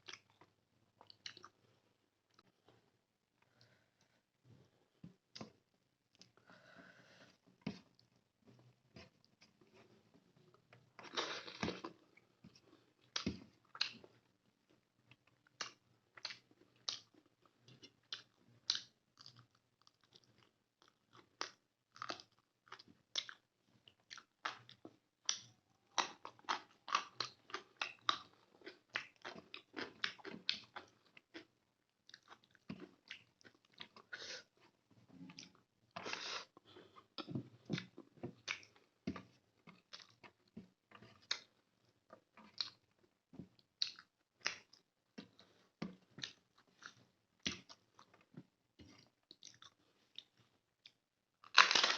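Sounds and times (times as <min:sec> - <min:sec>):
wet chewing and smacking: 0:00.0 - 0:01.7, 0:07.7 - 0:51.9.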